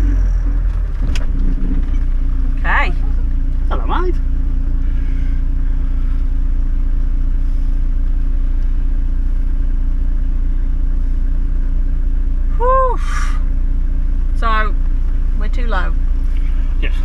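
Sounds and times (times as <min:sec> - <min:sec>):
engine running inside cabin: 0:00.0 - 0:17.0.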